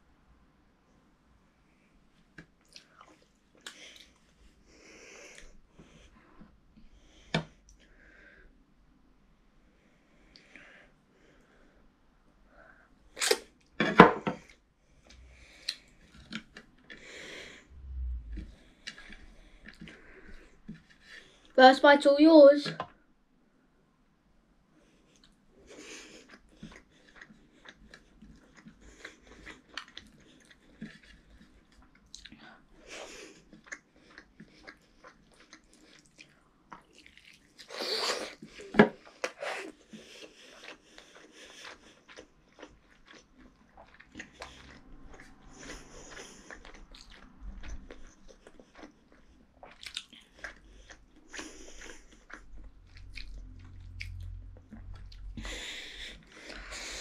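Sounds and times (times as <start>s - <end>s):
boy chewing food: 2.0s - 8.6s, 10.0s - 10.7s, 11.3s - 21.7s, 24.8s - 57.0s.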